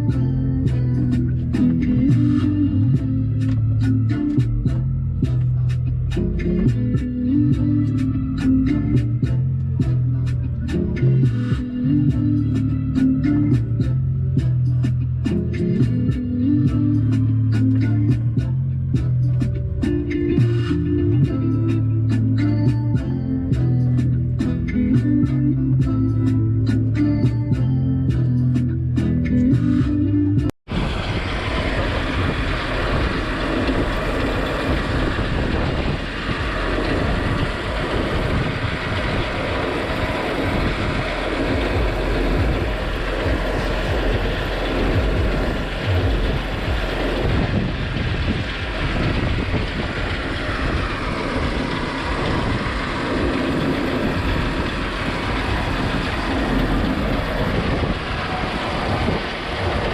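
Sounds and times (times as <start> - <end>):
tractor engine rumbling: 0.0 - 59.9.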